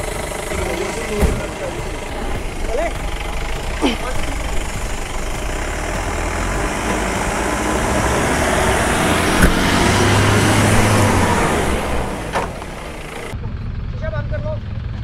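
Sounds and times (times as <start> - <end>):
off-road vehicle engines under load: 0.0 - 15.0.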